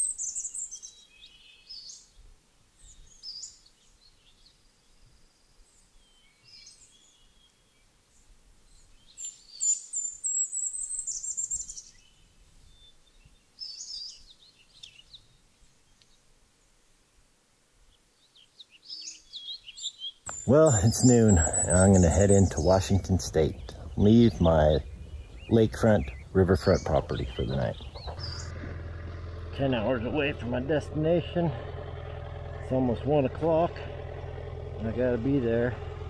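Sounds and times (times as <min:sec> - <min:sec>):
songbirds chirping: 0:00.0 - 0:36.0
trilled birdsong: 0:00.0 - 0:36.0.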